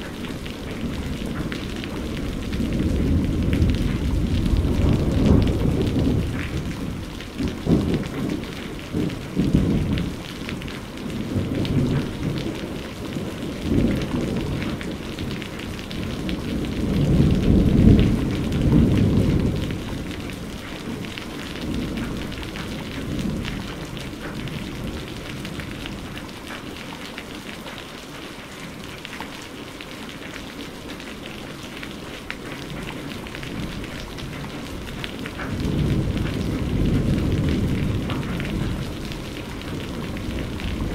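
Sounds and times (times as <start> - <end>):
steady rain hissing: 0.0 - 40.9
rolling thunder: 0.3 - 26.1, 32.7 - 40.9.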